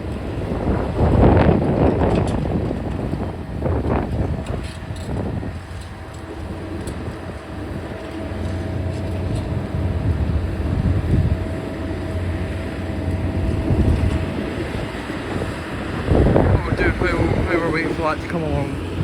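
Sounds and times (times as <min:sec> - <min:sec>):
constant machine whine: 0:00.0 - 0:19.0
diesel engine rumbling: 0:00.0 - 0:19.0.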